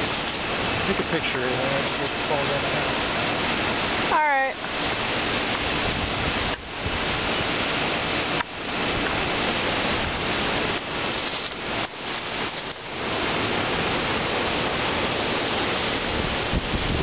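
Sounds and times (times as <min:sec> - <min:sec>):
wind buffeting the microphone: 0:00.0 - 0:17.0
wind rushing through leaves: 0:00.0 - 0:17.0.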